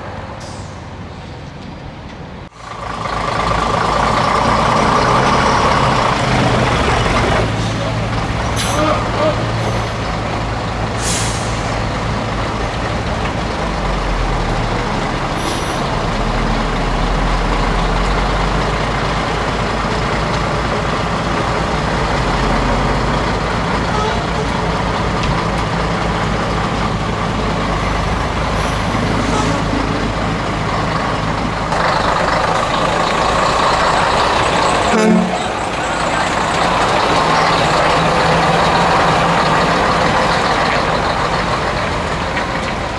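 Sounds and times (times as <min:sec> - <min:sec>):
truck diesel engines: 0:00.0 - 0:42.9.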